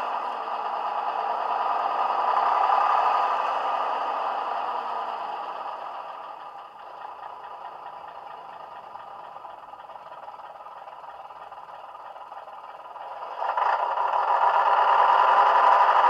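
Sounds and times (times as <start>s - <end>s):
diesel engine idling through small speaker: 0.0s - 16.0s.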